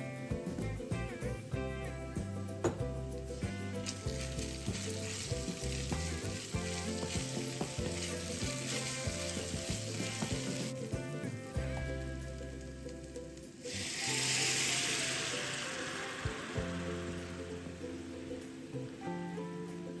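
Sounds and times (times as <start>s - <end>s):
soft background music: 0.0s - 20.0s
food sizzling in a pan: 2.6s - 19.9s.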